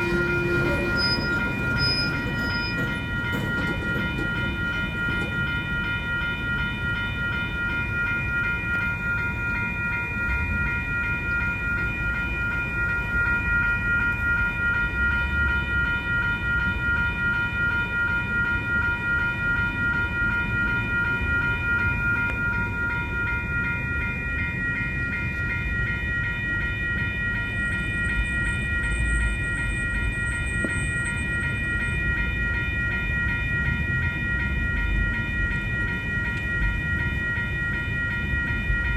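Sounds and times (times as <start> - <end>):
freight train rumbling past: 0.0 - 38.9
high ringing tones: 0.0 - 38.9.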